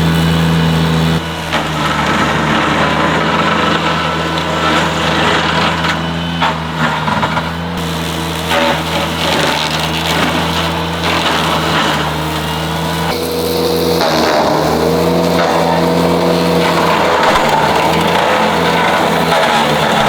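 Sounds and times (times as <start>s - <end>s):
mower cutting brush: 0.0s - 20.0s
tractor engine under load: 0.0s - 20.0s.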